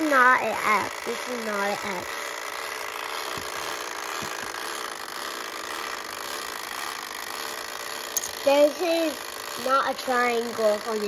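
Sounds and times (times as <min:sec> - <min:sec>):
wind-up timer buzzing: 0:00.0 - 0:11.0.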